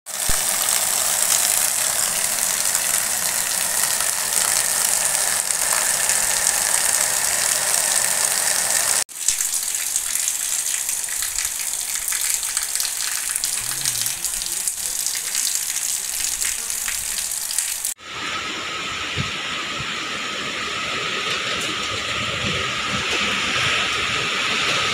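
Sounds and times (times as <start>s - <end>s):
heavy rain pouring: 0.1s - 24.9s.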